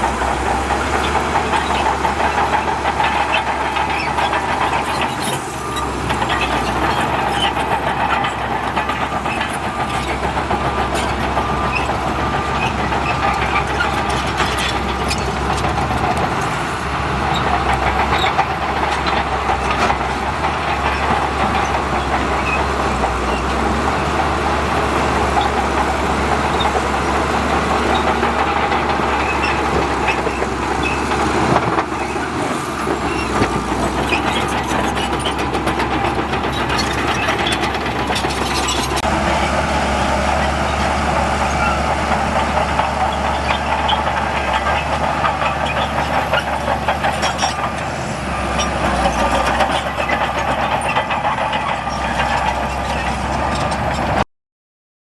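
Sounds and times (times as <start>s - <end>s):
diesel engine running: 0.0s - 54.3s.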